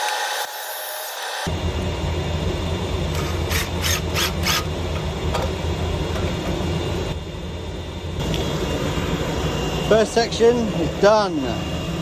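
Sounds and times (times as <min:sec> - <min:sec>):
low mechanical hum: 0:01.2 - 0:12.0.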